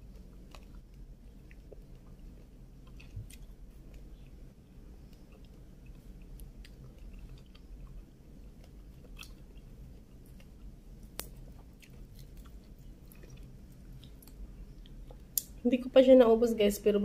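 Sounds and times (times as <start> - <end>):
chewing and biting shrimp: 0.0 - 15.2.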